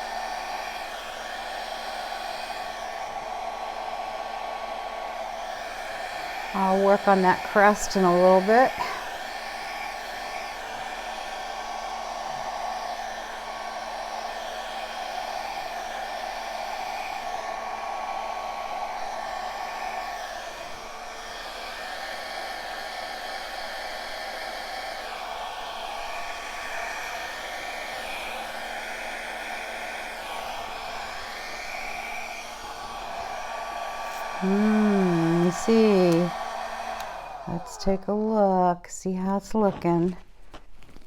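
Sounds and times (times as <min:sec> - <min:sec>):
blow dryer running: 0:00.0 - 0:38.4.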